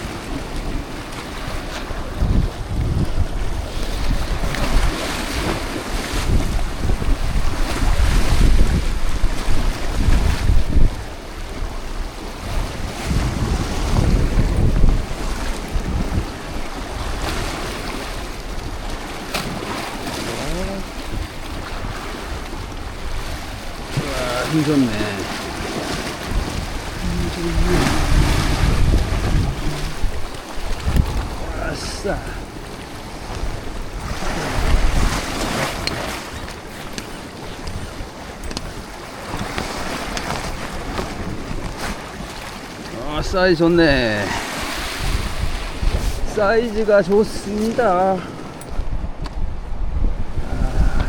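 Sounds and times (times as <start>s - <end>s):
sea waves: 0.0s - 51.0s
wind buffeting microphone: 0.0s - 51.0s.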